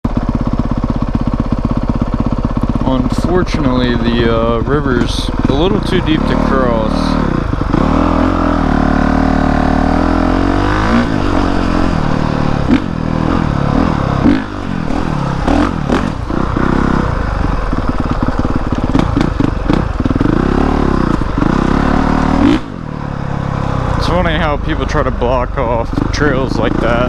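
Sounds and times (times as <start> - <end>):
dirt bike engine revving: 0.1 - 27.0.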